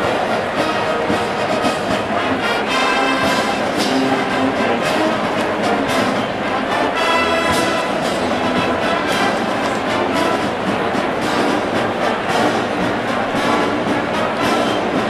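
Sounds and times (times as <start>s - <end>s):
military marching band playing: 0.0s - 15.0s.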